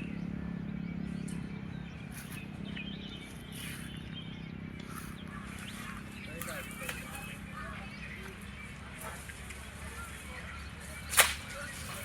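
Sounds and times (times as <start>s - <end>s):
bird chirps: 0.0s - 12.0s
low engine hum: 0.0s - 12.0s.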